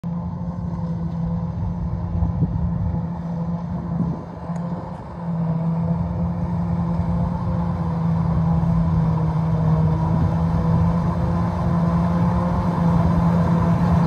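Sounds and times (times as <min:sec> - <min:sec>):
forage harvester droning: 0:00.0 - 0:14.0
tractor low rumble: 0:00.0 - 0:14.0.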